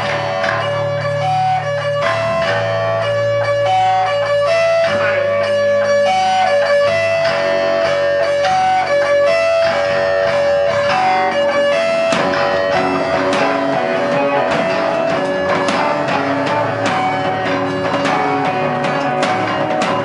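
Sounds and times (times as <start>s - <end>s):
drums and cymbals: 0.0s - 20.0s
electric guitar riff: 0.0s - 20.0s.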